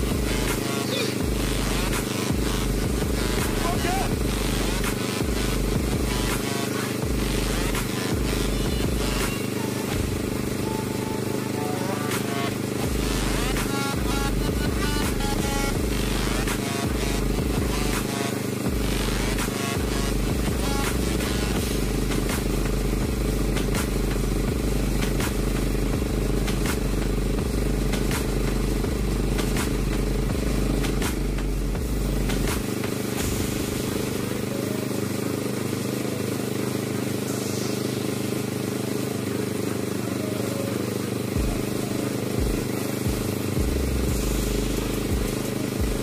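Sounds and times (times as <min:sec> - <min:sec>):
air compressor running: 0:00.0 - 0:46.0
spray gun hissing: 0:00.0 - 0:46.0.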